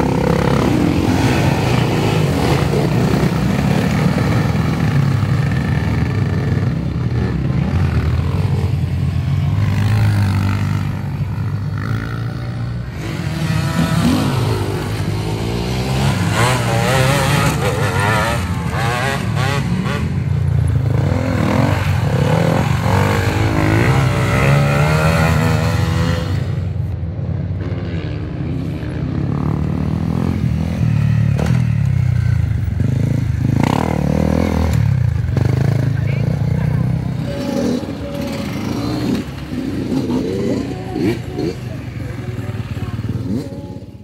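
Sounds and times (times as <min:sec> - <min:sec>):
dirt bike engines revving: 0:00.0 - 0:44.0.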